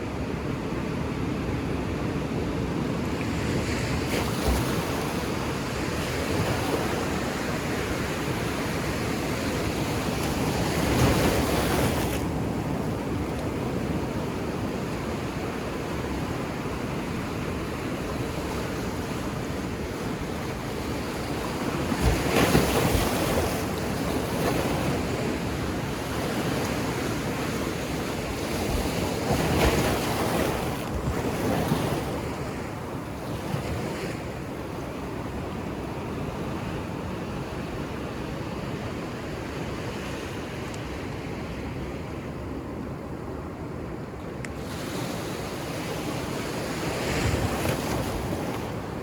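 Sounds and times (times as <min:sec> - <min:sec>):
ocean surf washing on beach: 0:00.0 - 0:49.0
waves breaking: 0:02.8 - 0:42.3, 0:42.9 - 0:49.0.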